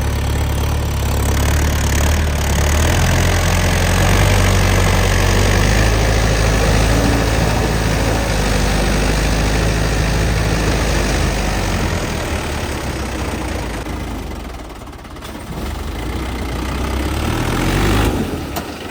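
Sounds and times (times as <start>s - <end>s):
tractor diesel engine idling: 0.0s - 18.9s.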